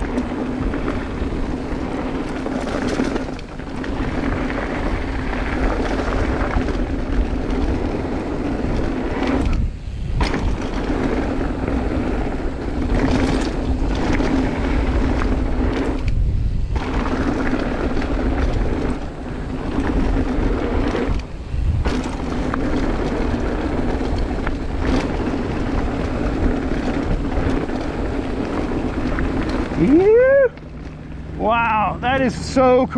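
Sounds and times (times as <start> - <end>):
bike tyres rattling over dirt: 0.0 - 32.9
wind buffeting microphone: 0.0 - 32.9.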